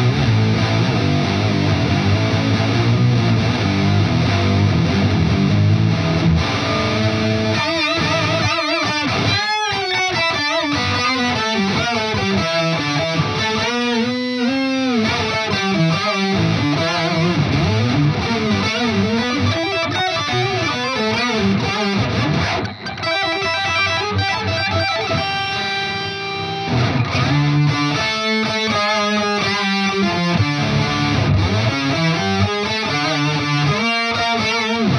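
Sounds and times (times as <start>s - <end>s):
distorted electric guitar with octave effect: 0.0s - 34.9s.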